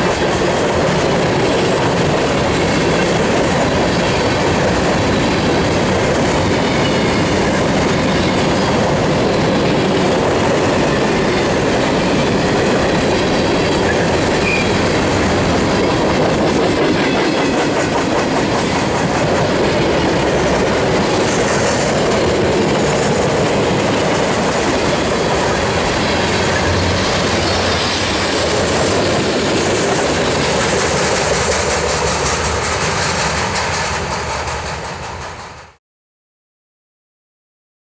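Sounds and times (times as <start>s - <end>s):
freight train wheels clicking on rails: 0.0s - 35.8s.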